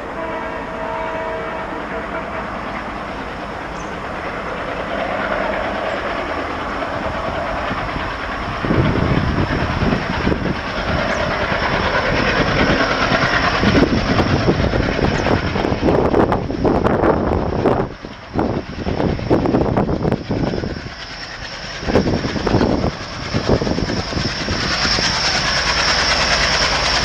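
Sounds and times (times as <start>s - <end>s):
train rushing: 0.0s - 27.0s.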